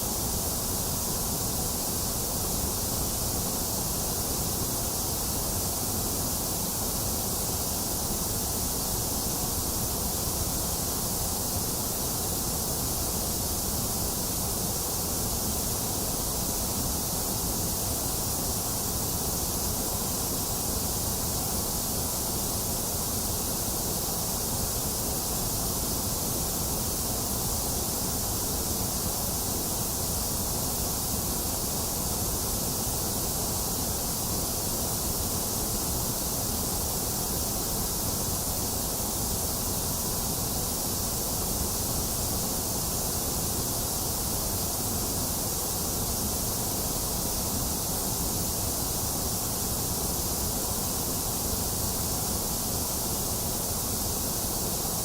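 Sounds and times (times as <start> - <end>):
electronic white noise hiss: 0.0 - 55.0.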